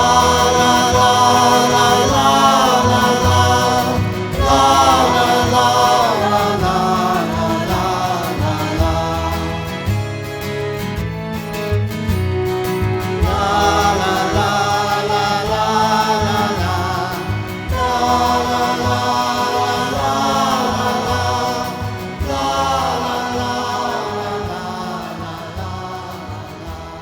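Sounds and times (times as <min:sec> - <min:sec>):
wordless chant-like singing: 0:00.0 - 0:11.5, 0:12.6 - 0:27.0
musical accompaniment: 0:00.0 - 0:27.0.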